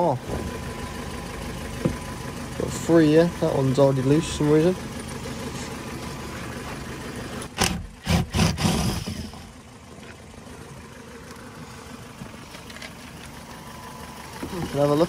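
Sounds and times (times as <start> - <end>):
car engine idling with clatter: 0.0 - 15.0.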